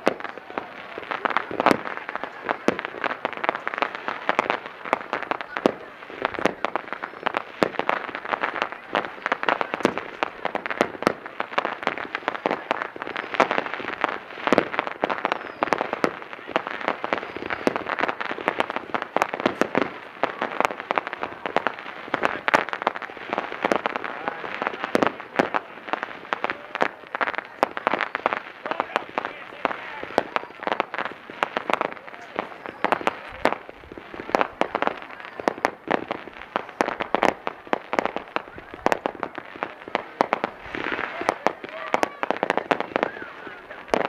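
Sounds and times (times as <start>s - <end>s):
fireworks bangs: 0.0s - 44.0s
fireworks pops and crackles: 0.0s - 44.0s.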